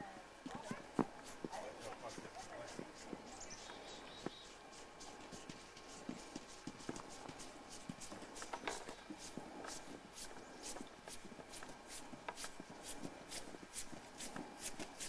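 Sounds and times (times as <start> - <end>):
footsteps on snow: 0.4 - 15.0.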